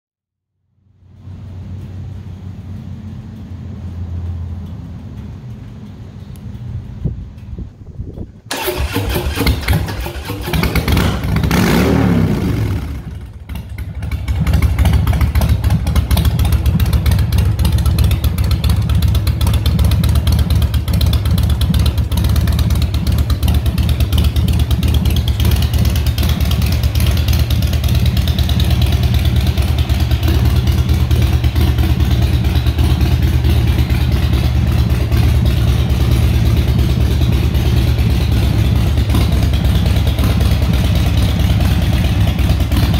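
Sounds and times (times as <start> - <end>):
motorcycle engine idling: 4.6 - 42.9
motorcycle engine cranking: 5.2 - 42.9.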